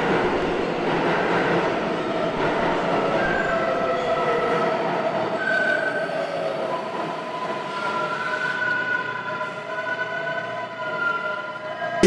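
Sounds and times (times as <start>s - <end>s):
subway train rail noise: 0.0s - 12.0s.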